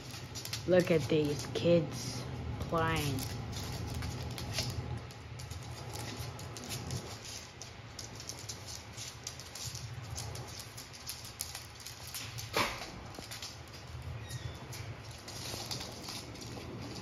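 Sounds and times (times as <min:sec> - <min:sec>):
dog claws pattering on hard floor: 0:00.0 - 0:17.0.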